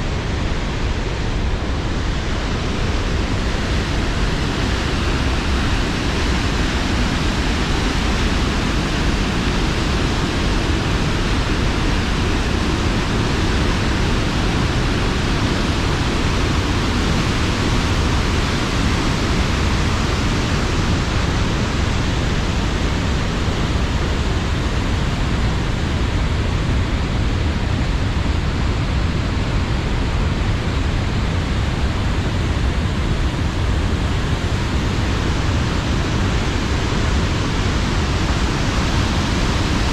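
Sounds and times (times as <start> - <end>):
waterfall rushing: 2.2 - 26.2, 31.9 - 39.9.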